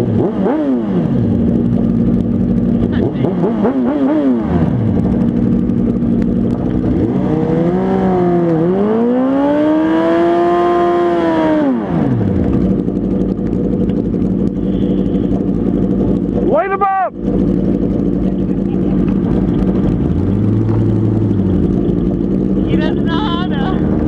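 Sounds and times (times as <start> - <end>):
vehicle engine idling and revving: 0.0 - 24.0.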